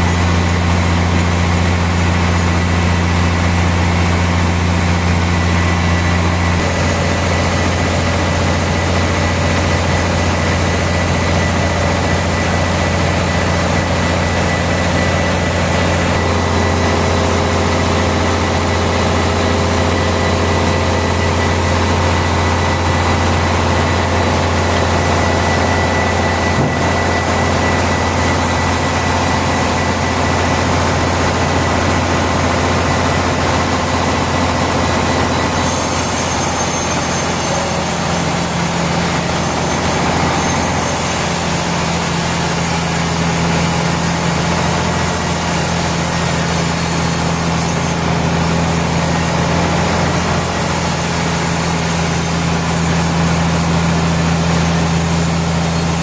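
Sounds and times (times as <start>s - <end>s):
sawmill machinery running: 0.0s - 56.0s
thin steady whine: 0.0s - 56.0s.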